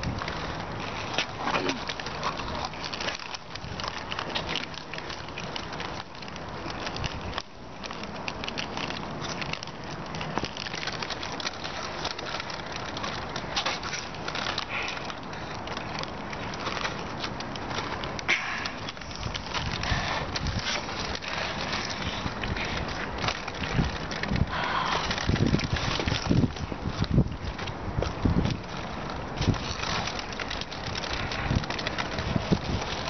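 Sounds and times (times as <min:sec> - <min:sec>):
foil snack bags crinkling: 0:00.0 - 0:33.0.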